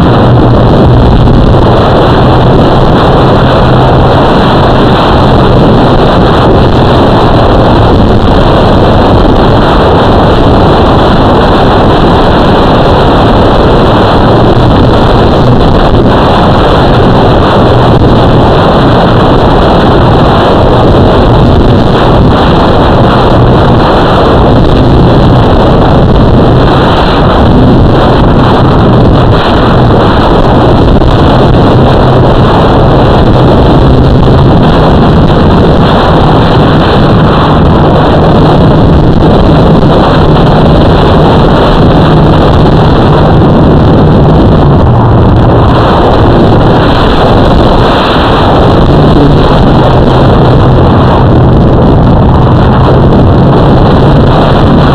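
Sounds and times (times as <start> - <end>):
low motor hum: 0.0 - 54.9
wind and propeller rush: 0.0 - 54.9.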